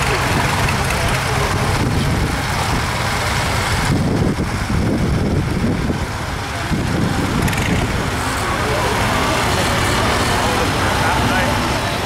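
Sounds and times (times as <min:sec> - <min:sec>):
tractor engines running: 0:00.0 - 0:12.0.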